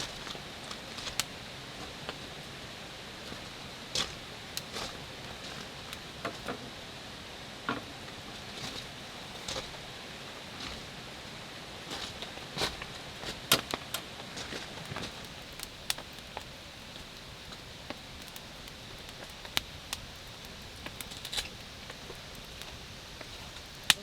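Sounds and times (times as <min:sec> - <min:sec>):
light outdoor hiss: 0:00.0 - 0:24.0.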